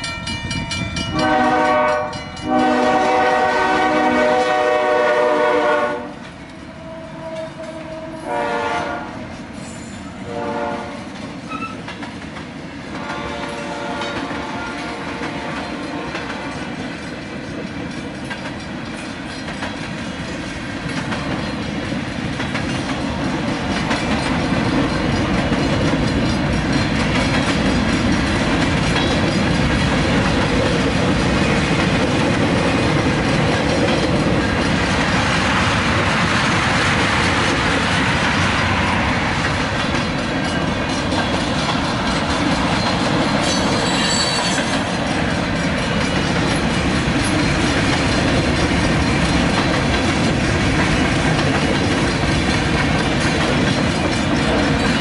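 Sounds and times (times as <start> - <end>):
freight train cars rolling: 0.0 - 55.0.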